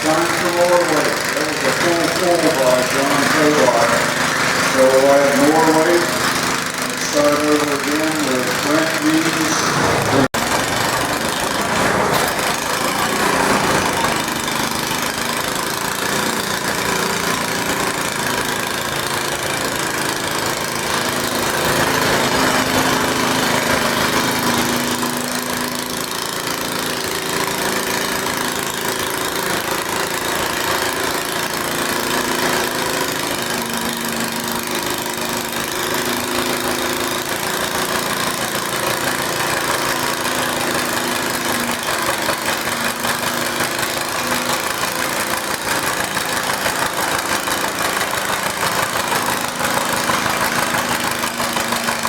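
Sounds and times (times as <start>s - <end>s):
tractor engine under load: 0.0s - 52.0s.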